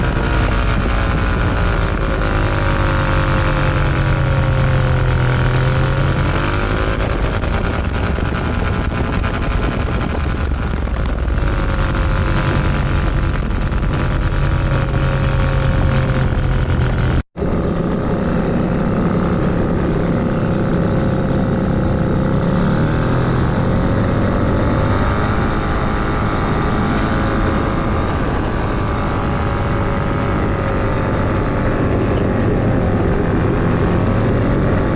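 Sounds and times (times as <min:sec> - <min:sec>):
ultralight engine and propeller: 0:00.0 - 0:34.9.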